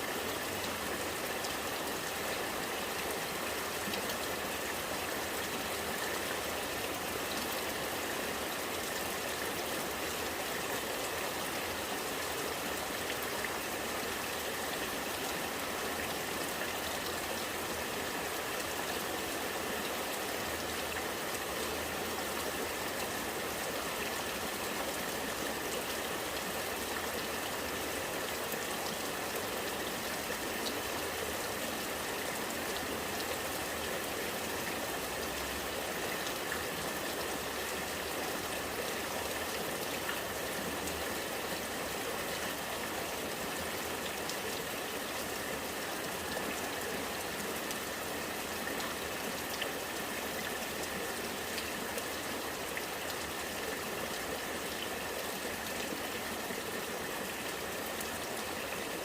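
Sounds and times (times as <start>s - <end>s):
rain falling: 0.0s - 59.0s
rainwater running and gurgling: 0.0s - 59.0s.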